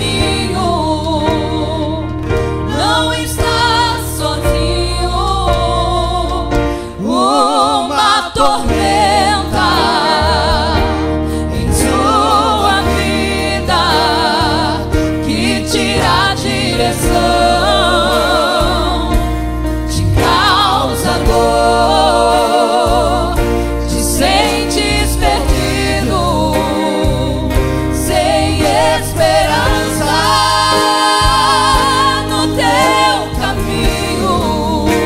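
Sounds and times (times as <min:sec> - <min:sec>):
bass: 0:00.0 - 0:35.0
keyboard: 0:00.0 - 0:35.0
mixed choir singing gospel: 0:00.0 - 0:35.0.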